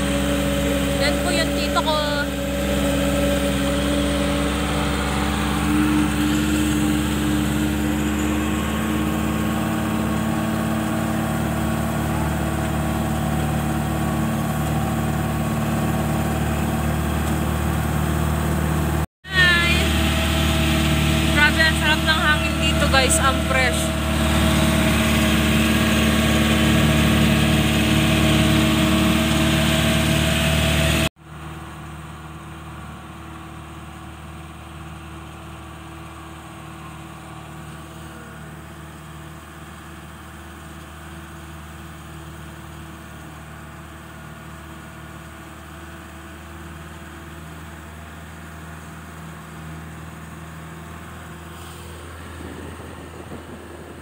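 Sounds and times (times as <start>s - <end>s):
quiet steady engine hum: 0.0s - 13.8s, 16.4s - 25.4s, 31.2s - 54.0s
vehicle engine running: 0.0s - 54.0s.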